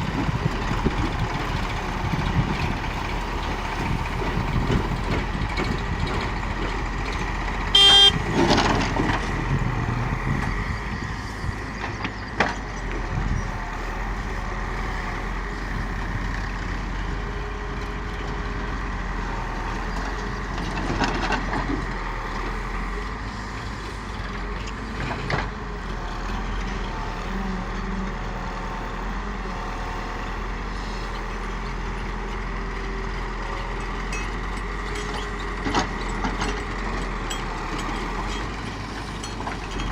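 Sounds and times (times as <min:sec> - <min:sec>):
heavy vehicle engine idling: 0:00.0 - 0:39.9.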